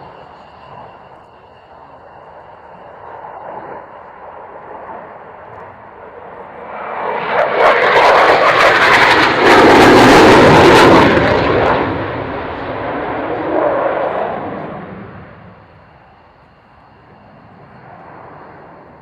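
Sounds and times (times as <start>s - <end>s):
jet engines crackling rumble: 0.0s - 19.0s.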